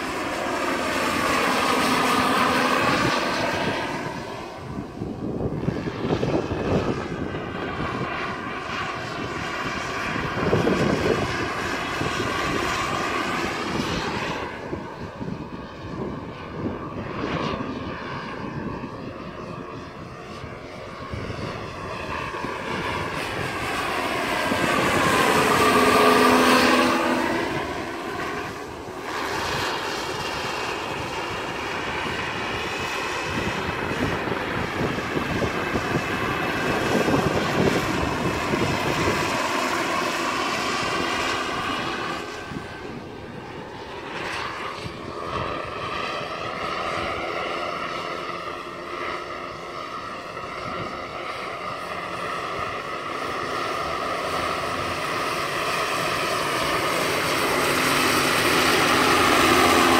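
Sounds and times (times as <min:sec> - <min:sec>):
model helicopter turbine whine: 0:00.0 - 0:59.9.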